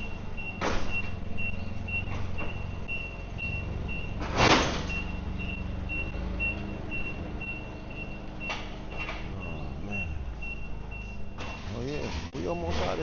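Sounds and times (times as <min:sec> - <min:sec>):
reversing alarm beeping: 0:00.0 - 0:04.2, 0:04.8 - 0:12.2
diesel engine idling: 0:00.0 - 0:13.0.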